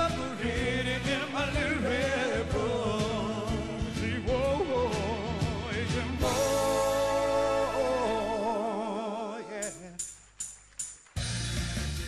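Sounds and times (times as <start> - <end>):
band backing with bass: 0.0 - 9.0, 9.6 - 12.0
man singing with vibrato: 0.0 - 10.0.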